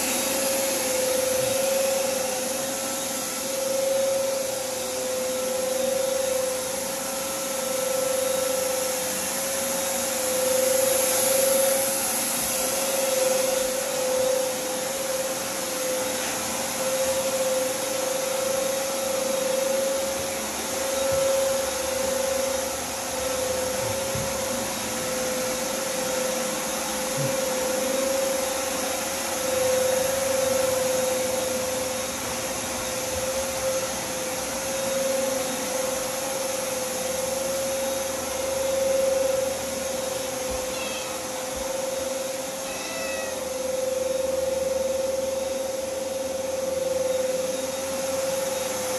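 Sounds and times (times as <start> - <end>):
blower motor whining over rushing air: 0.0 - 48.9.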